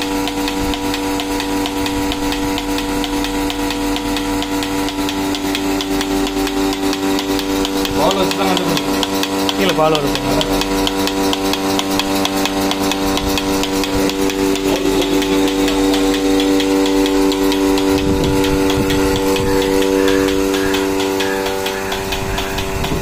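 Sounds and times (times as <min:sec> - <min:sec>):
pulsator clicking rhythmically: 0:00.0 - 0:23.0
vacuum pump humming: 0:00.0 - 0:23.0.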